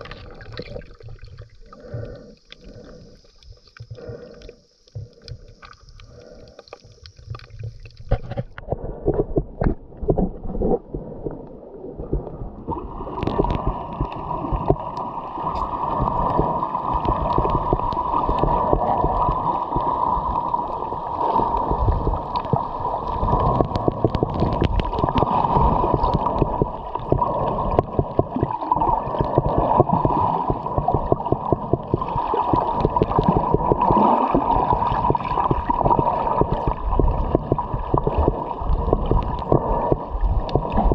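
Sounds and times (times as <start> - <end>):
faint steady whine: 0.0 - 40.8
crackling bubbles: 0.0 - 40.9
underwater gurgling water: 0.0 - 40.9.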